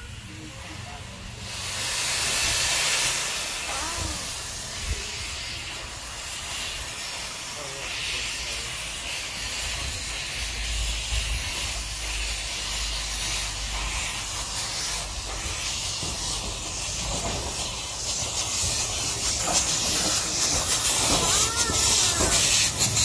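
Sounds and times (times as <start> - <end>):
steam locomotive hissing steam: 0.0 - 23.0.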